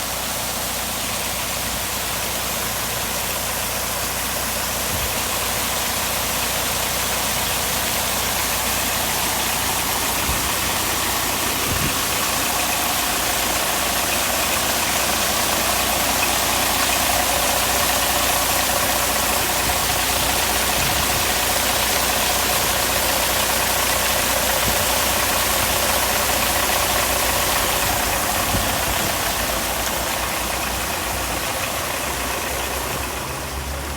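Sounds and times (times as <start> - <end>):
truck engine running: 0.0 - 33.9.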